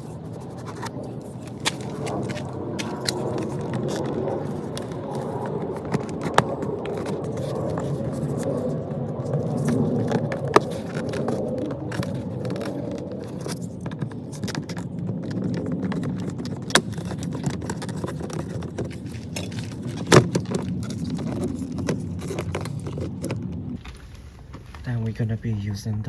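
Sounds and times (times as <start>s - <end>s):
plastic trim rattling and scraping: 0.0s - 24.6s.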